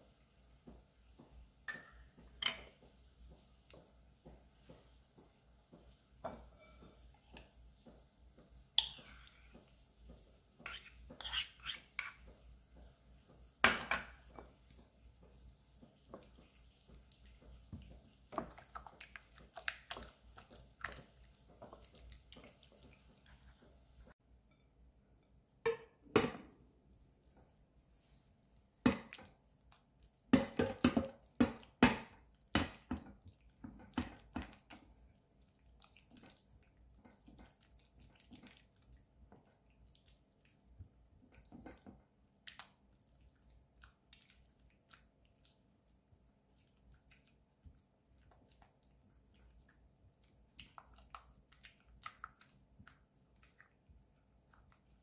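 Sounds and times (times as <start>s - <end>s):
spatula squelching mixture: 0.0s - 25.6s, 26.8s - 55.0s.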